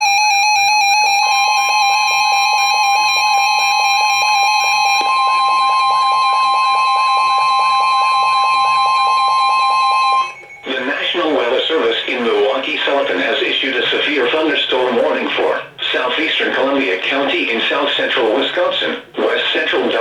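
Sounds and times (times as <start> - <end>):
steady high alarm tone: 0.0 - 18.9.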